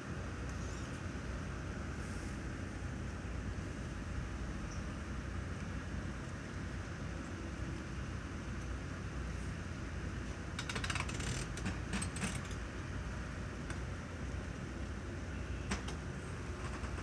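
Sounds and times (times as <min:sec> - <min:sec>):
construction site and road rumble: 0:00.0 - 0:17.0.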